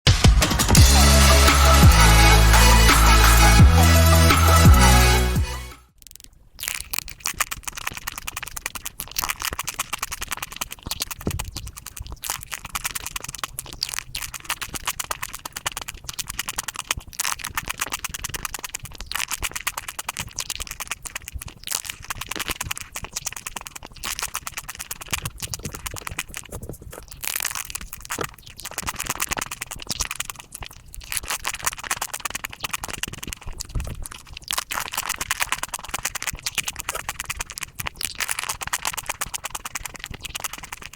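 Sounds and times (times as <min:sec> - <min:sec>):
sped-up chocolate chewing crackle: 0:05.9 - 0:40.9.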